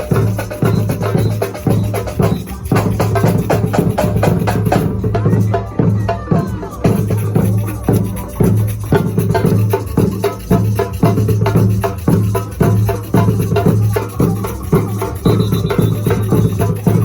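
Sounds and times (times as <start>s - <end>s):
percussion-driven music: 0.0s - 17.0s
steady bass: 0.0s - 17.0s.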